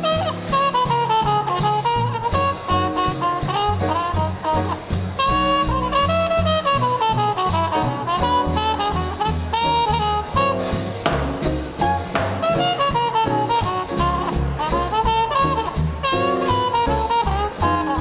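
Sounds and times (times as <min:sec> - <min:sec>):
drums: 0:00.0 - 0:18.0
horn melody with sliding notes: 0:00.0 - 0:18.0
piano: 0:00.0 - 0:18.0
stepping bass line: 0:00.0 - 0:18.0.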